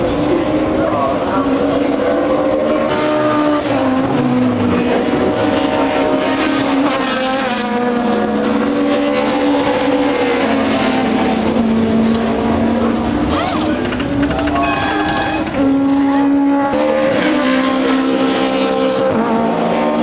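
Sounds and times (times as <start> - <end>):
racing car engines droning: 0.0 - 20.0.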